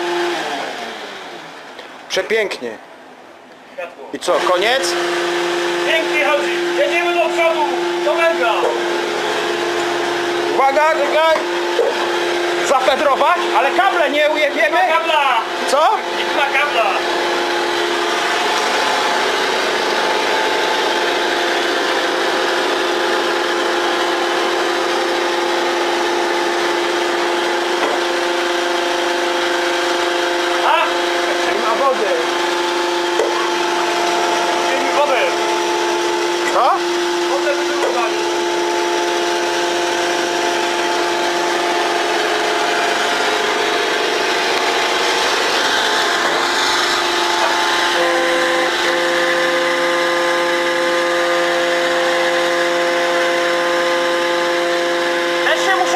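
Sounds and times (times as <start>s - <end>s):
mining machine hum: 4.3s - 55.9s.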